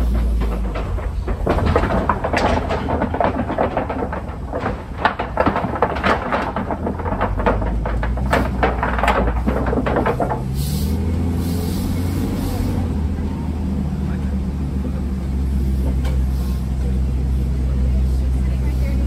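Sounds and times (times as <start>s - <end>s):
truck knocking and rattling: 0.0s - 19.0s
vehicle engine and road rumble: 0.0s - 19.0s.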